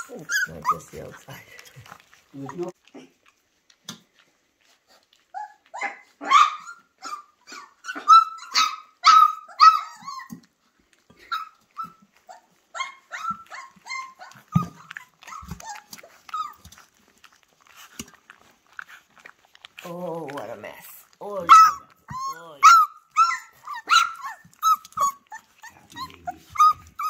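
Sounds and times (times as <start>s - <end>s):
puppies yipping and barking: 0.0s - 3.2s, 4.7s - 10.5s, 11.1s - 19.6s, 21.2s - 27.0s
puppies eating from metal pan: 0.0s - 27.0s.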